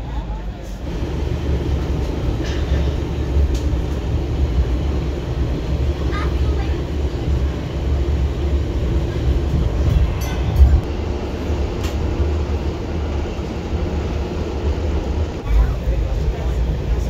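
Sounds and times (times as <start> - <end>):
train carriage rumble: 0.0 - 17.0.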